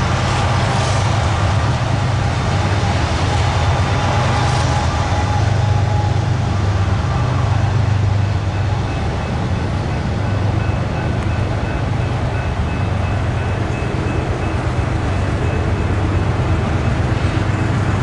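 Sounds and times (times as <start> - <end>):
freight train rumble: 0.0 - 18.0
rail noise: 0.0 - 18.0.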